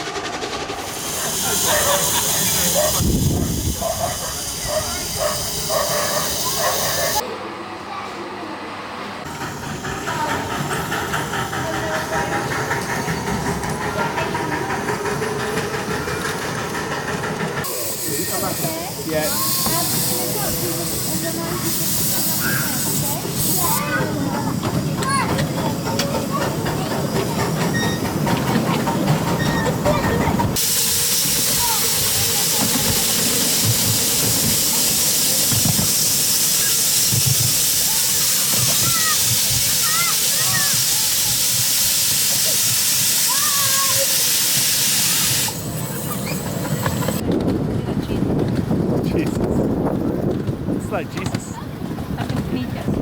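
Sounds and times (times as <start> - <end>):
loud hiss of steam: 0.0 - 7.2, 9.2 - 47.2
steam train clattering on track: 0.0 - 7.2, 9.2 - 53.0.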